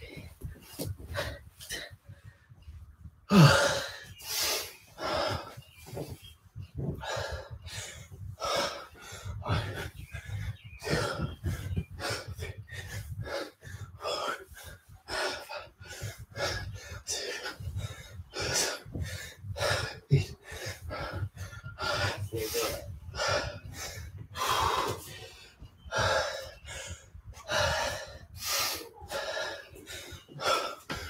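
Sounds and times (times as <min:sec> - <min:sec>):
man breathing hard: 0:00.0 - 0:31.0.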